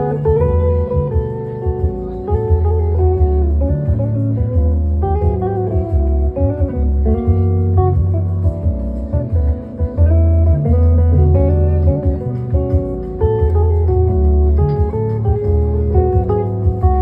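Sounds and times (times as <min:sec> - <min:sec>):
plucked guitar notes: 0:00.0 - 0:17.0
steady bass line: 0:00.0 - 0:17.0.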